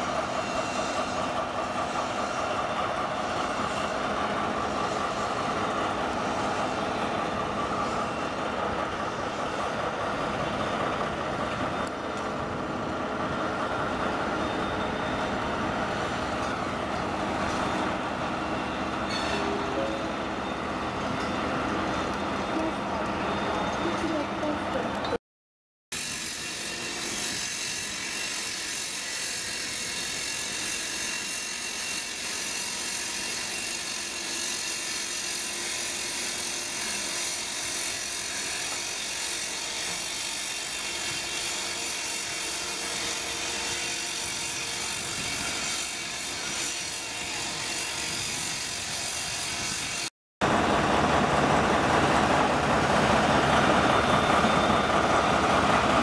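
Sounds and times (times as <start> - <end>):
diesel locomotive passing: 0.0 - 25.2, 26.0 - 56.0
machinery noise: 0.0 - 25.2, 26.0 - 56.0.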